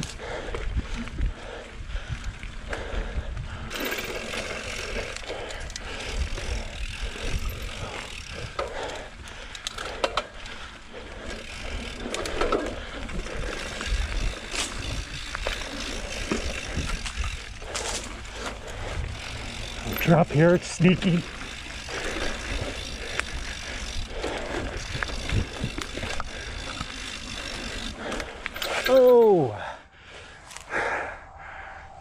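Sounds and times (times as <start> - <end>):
steady low rumble: 0.0 - 28.7, 29.8 - 32.0
bike rattling over bumps: 0.0 - 29.7
bike tyres rolling on dirt: 0.0 - 31.1.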